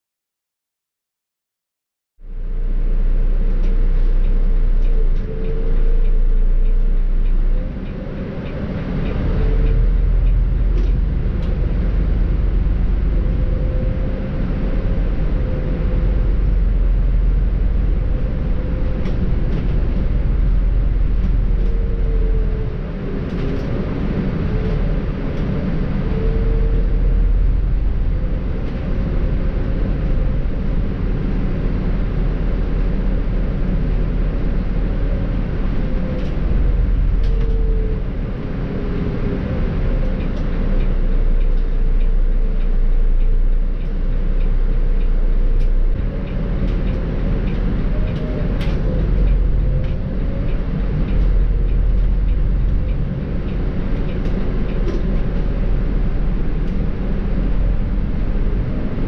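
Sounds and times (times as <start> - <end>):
bus diesel engine rumbling: 2.2 - 59.0
gearbox whine: 2.3 - 59.0.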